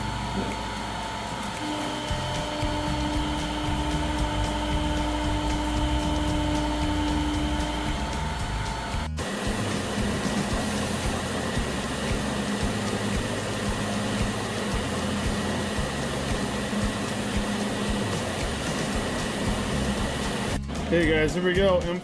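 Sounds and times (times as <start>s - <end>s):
milling machine spindle whine: 0.0s - 22.0s.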